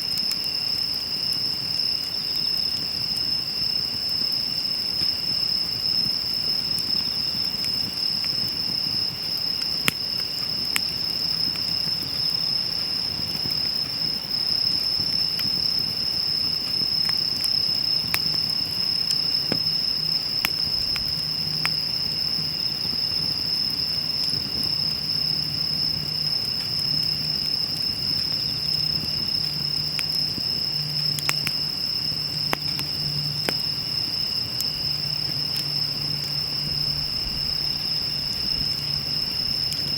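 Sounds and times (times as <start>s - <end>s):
insect trill: 0.0s - 39.9s
wood fire crackling: 0.0s - 39.9s.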